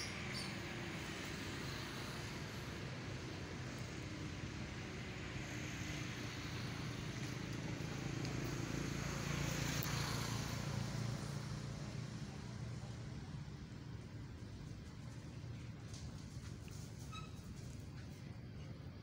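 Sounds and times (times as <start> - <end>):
vehicle passing on a road: 0.0 - 19.0.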